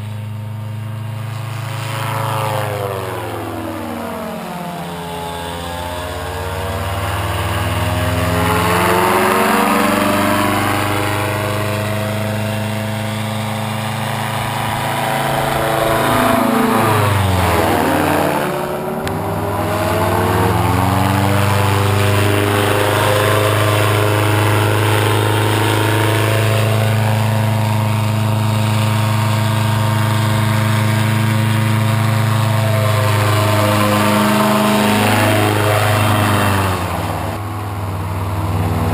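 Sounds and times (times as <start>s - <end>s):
paramotor engine and propeller: 0.0s - 38.9s.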